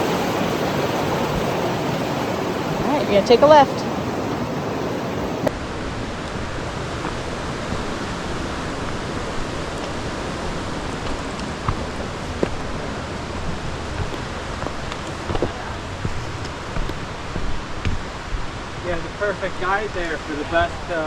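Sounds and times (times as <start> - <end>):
mountain creek rushing: 0.0 - 21.0.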